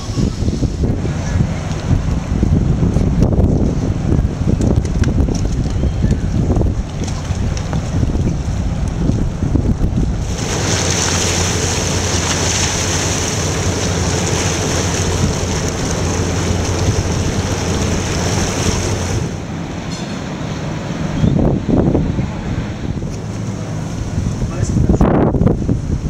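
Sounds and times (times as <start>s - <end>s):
low boat engine hum: 0.0s - 26.0s
water noise: 0.0s - 26.0s
wind rushing over microphone: 0.0s - 26.0s.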